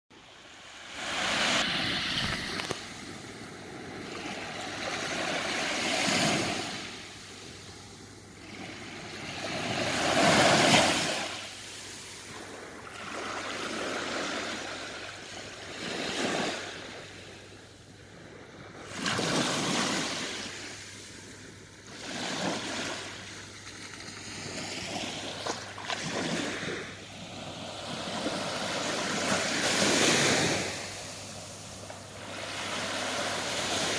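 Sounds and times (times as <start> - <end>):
small waves breaking on beach: 0.2 - 33.9.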